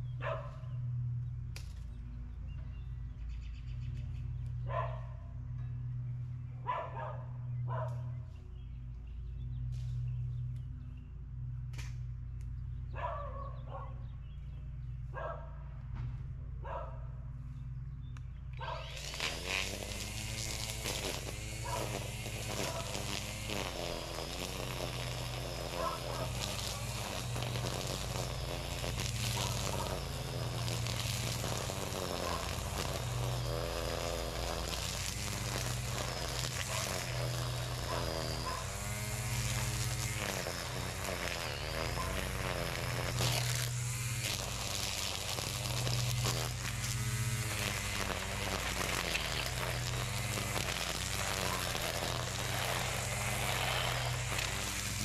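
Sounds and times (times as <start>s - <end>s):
string trimmer engine: 0.0s - 55.0s.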